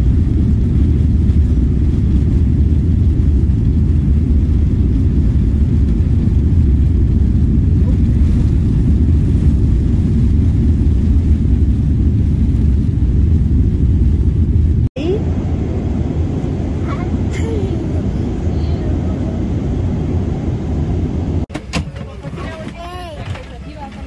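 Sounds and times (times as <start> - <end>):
airliner cabin low rumble: 0.0 - 24.0.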